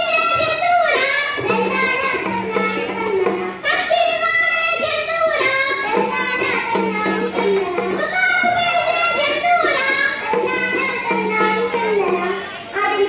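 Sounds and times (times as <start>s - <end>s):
hand drum: 0.0s - 3.9s, 4.8s - 12.5s
girls singing into microphones: 0.0s - 13.0s.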